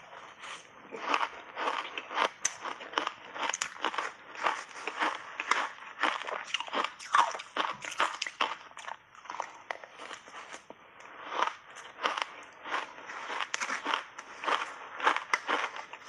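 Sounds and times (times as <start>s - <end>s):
crunchy ice being chewed: 0.0s - 16.0s.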